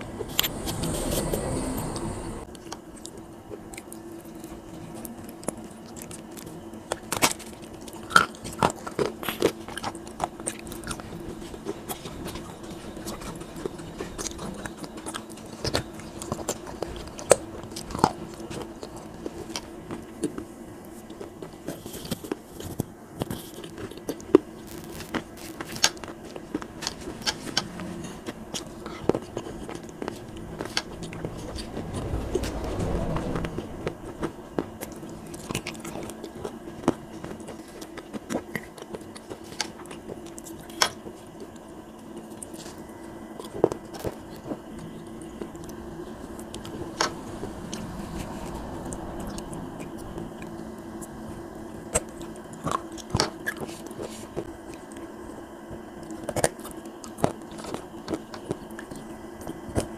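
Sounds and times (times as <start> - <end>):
chewing soft wet clay: 0.2 - 59.9.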